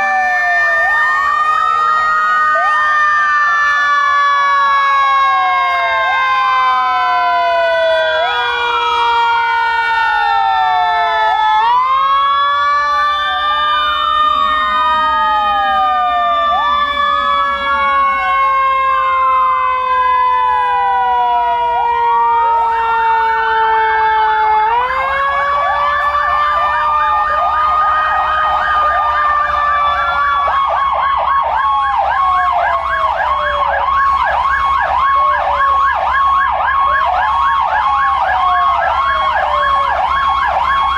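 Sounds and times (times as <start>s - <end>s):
fire truck sirens wailing: 0.0s - 40.9s.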